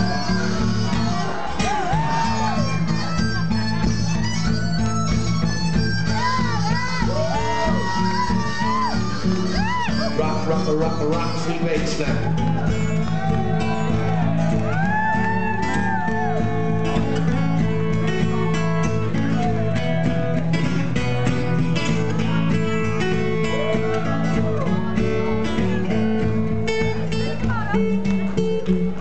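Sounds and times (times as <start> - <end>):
bass line: 0.0 - 29.0
plucked acoustic guitar: 0.0 - 29.0.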